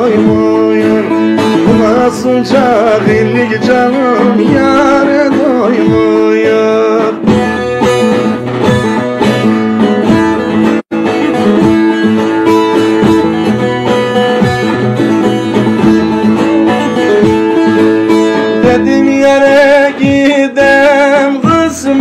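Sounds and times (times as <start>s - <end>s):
plucked long-necked lute: 0.0s - 22.0s.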